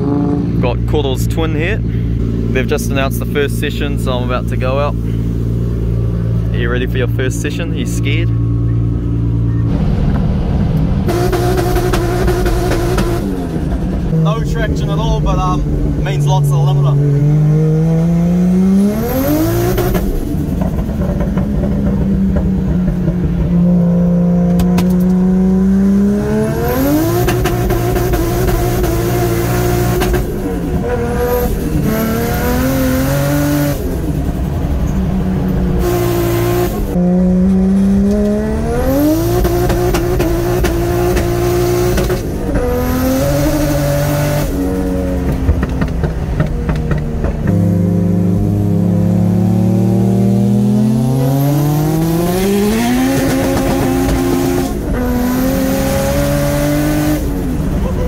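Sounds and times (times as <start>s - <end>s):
car engine revving hard: 9.8s - 58.0s.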